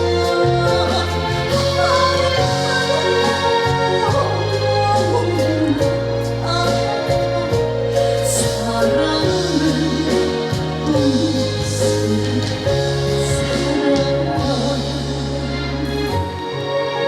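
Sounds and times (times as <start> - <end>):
woman singing with vibrato: 0.0 - 16.4
backing track with bass line: 0.0 - 17.0.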